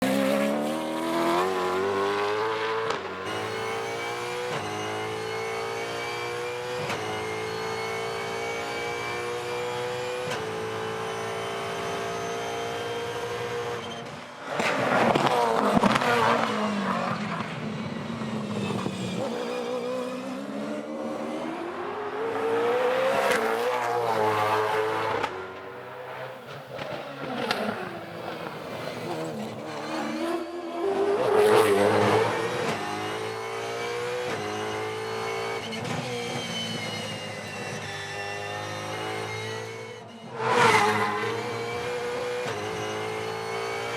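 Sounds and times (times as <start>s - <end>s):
race car engine revving: 0.0s - 35.9s, 38.2s - 43.9s.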